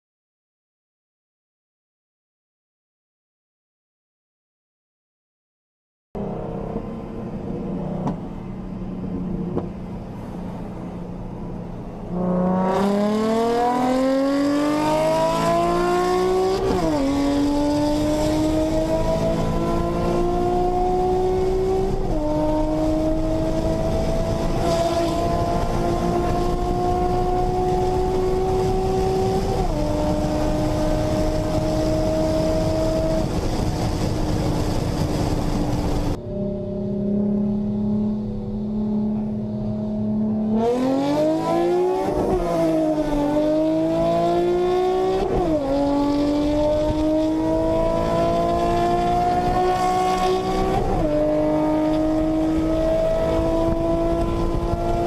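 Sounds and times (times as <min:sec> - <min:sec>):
car engine revving: 0:06.2 - 0:55.0.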